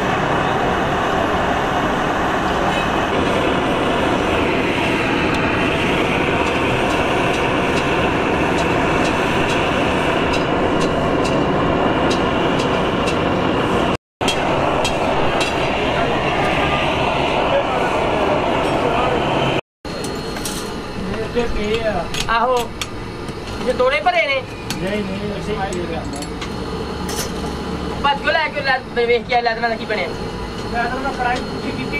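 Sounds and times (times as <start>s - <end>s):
blowtorch hissing: 0.0s - 31.9s.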